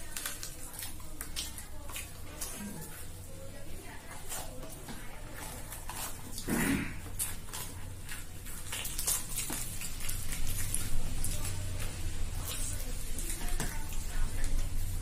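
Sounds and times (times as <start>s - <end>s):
bread torn and chewed: 0.0s - 15.0s
low steady hum: 0.0s - 15.0s.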